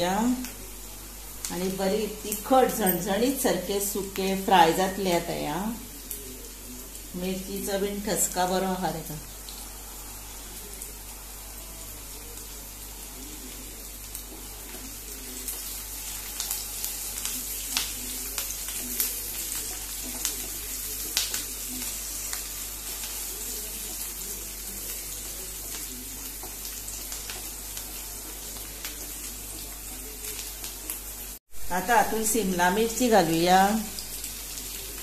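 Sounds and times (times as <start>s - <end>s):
onions frying in hot oil: 0.0s - 35.0s.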